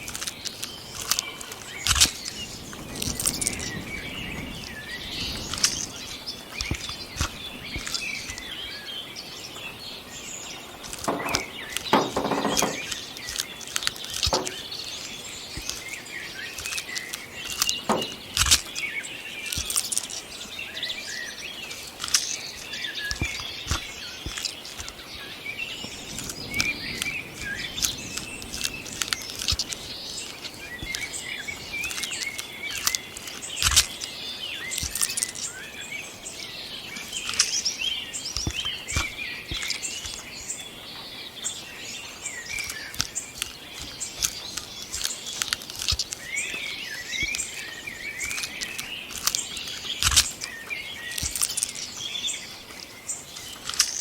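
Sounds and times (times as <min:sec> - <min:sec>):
sharp clicks and rustles: 0:00.0 - 0:08.5, 0:10.4 - 0:20.4, 0:21.7 - 0:25.1, 0:25.8 - 0:35.6, 0:36.9 - 0:40.4, 0:42.5 - 0:54.0
small birds chirping: 0:00.0 - 0:54.0.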